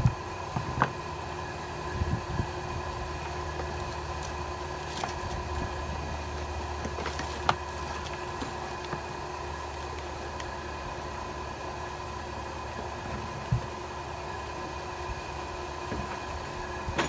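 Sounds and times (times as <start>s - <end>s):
machine hum with faint whine: 0.0s - 17.0s.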